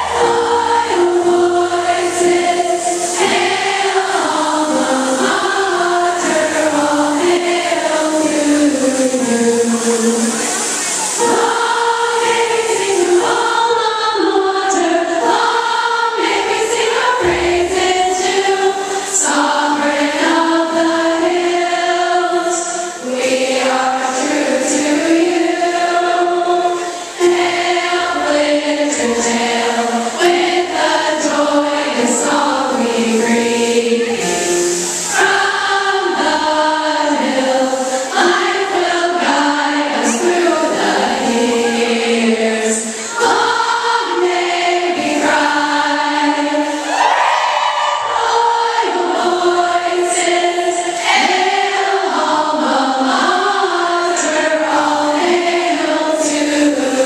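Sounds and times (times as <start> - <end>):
crowd of girls singing: 0.0 - 57.0.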